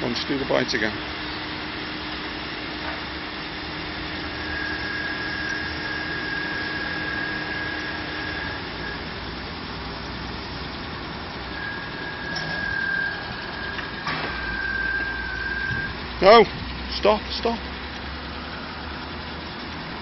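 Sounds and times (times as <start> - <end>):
car engine idling: 0.0 - 20.0
high-pitched whine: 0.0 - 20.0.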